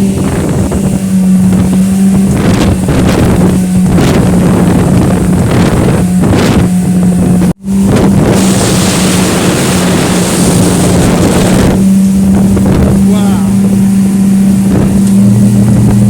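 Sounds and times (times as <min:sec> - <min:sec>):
outboard engine droning: 0:00.0 - 0:16.0
water rushing past hull: 0:00.0 - 0:16.0
wind buffeting microphone: 0:00.0 - 0:16.0.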